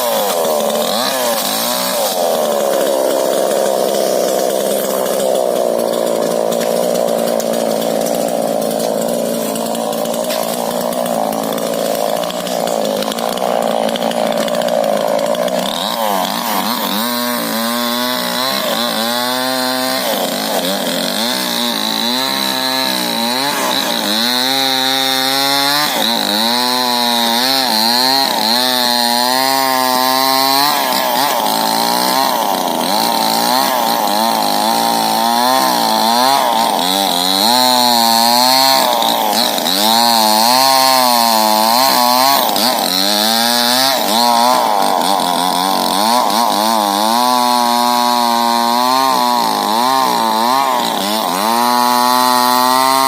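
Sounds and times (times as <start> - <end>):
chainsaw cutting at full throttle: 0.0 - 53.0.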